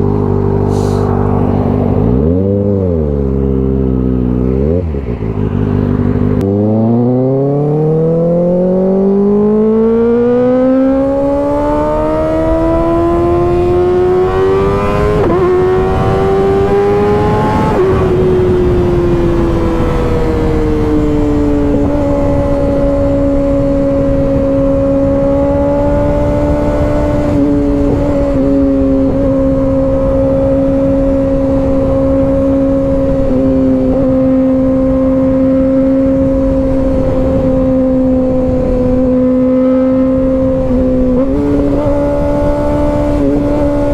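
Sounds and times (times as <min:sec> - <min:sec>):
motorcycle engine accelerating: 0:00.0 - 0:43.9
road and wind noise: 0:00.0 - 0:43.9.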